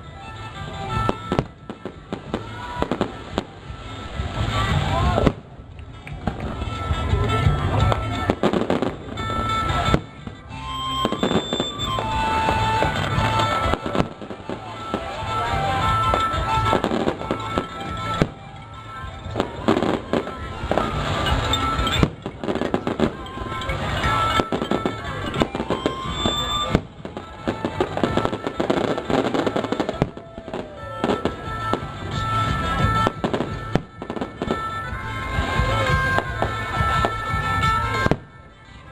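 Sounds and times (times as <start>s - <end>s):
music playing: 0.0s - 38.9s
fireworks cracking and popping: 0.4s - 38.6s.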